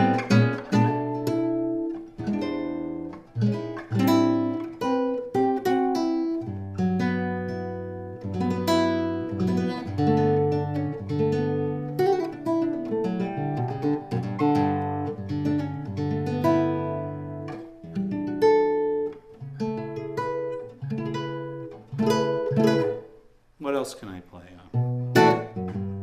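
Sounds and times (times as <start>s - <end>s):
classical guitar chords and notes: 0.0s - 23.4s, 24.0s - 26.0s.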